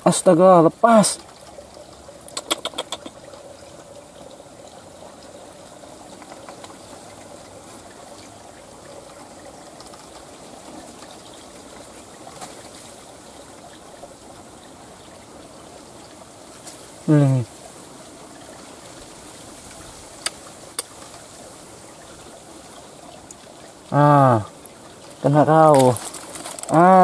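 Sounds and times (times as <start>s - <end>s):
water trickling: 0.0s - 27.0s.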